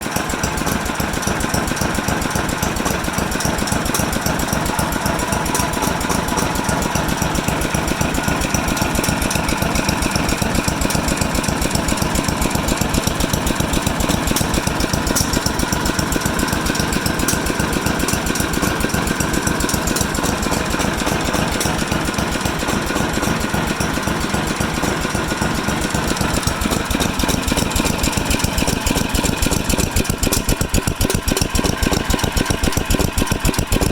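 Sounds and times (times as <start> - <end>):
small engine idling: 0.0 - 33.9.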